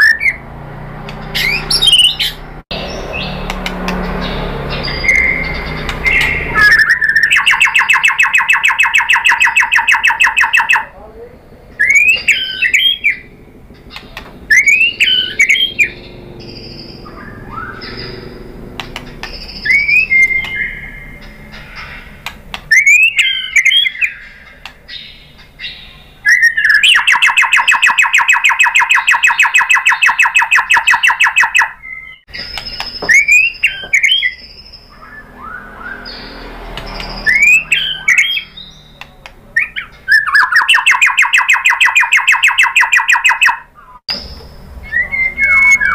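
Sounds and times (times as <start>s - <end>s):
bird whistled phrases: 0.0s - 0.4s, 1.4s - 2.4s, 4.8s - 10.9s, 11.8s - 13.3s, 13.9s - 18.3s, 19.2s - 22.0s, 22.7s - 44.0s, 44.8s - 45.9s
bird fast trill: 0.0s - 0.5s, 1.3s - 10.9s, 11.8s - 45.9s.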